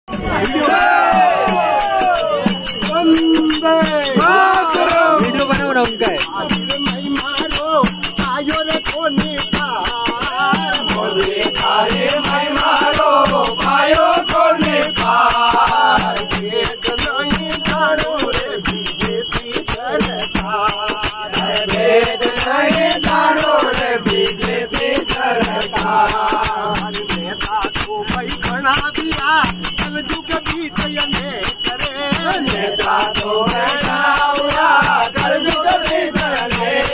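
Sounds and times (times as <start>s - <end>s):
men singing in chorus: 0.1s - 36.9s
small hand cymbals jingling: 0.1s - 36.9s
steady beat: 0.1s - 36.9s.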